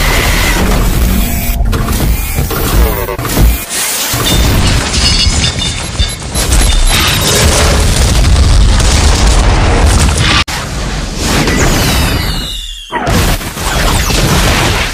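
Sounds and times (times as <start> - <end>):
distorted explosions and booms: 0.0 - 12.5.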